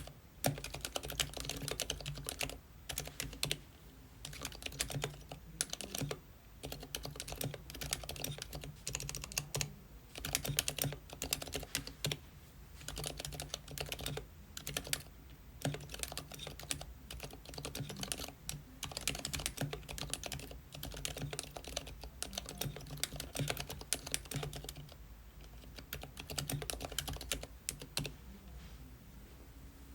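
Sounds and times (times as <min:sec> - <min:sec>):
mechanical keyboard typing: 0:00.0 - 0:03.6, 0:04.2 - 0:12.2, 0:12.8 - 0:28.2.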